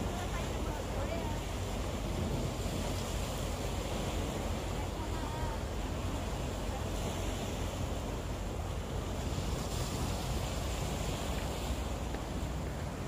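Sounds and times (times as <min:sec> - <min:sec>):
waves washing against rocks: 0:00.0 - 0:13.0.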